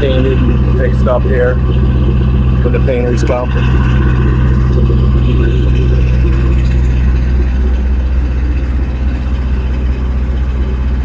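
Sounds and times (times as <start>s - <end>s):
generator exhaust low hum: 0.0s - 11.0s.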